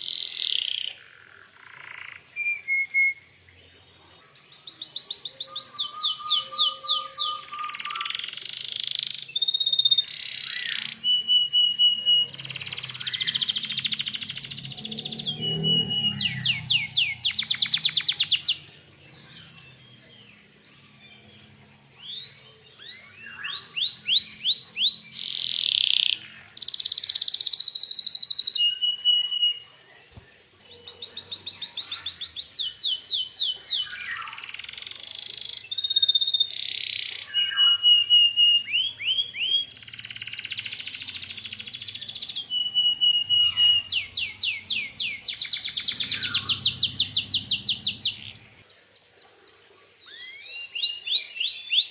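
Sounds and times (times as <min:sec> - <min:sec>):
canary singing: 0:04.4 - 0:29.8, 0:30.6 - 0:48.6.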